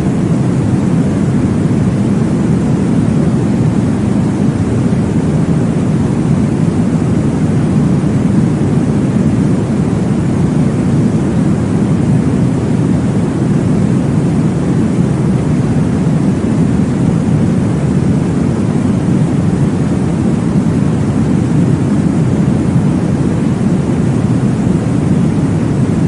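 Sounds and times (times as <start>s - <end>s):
deep rushing white noise: 0.0s - 26.0s.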